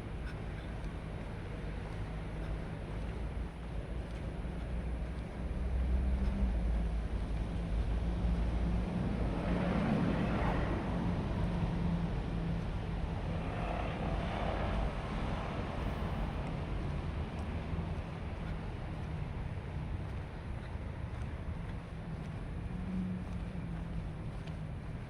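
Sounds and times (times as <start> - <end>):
low engine hum of traffic: 0.0 - 25.0
vehicles passing by: 0.0 - 25.0.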